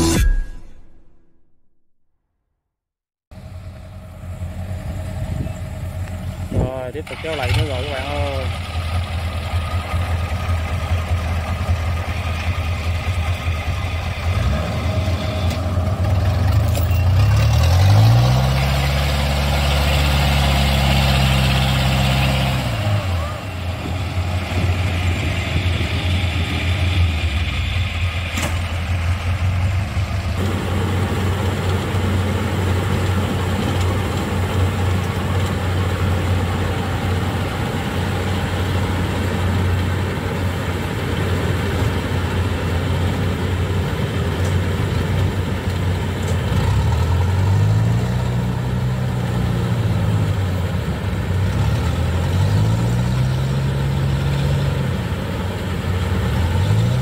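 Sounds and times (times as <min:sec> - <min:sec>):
harvester diesel engine revving: 0:03.3 - 0:57.0.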